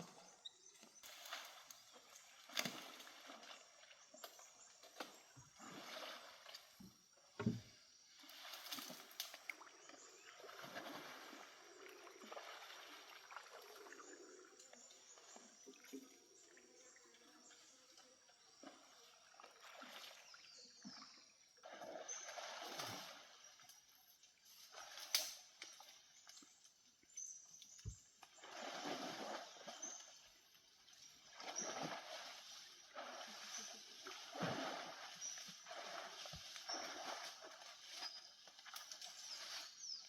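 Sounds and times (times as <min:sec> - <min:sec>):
water sloshing and splashing: 0:00.0 - 0:40.0.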